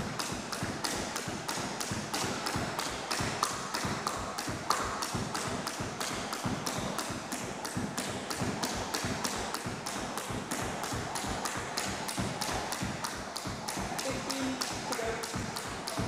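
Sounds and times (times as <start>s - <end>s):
skipping rope slapping wooden floor: 0.0s - 16.0s.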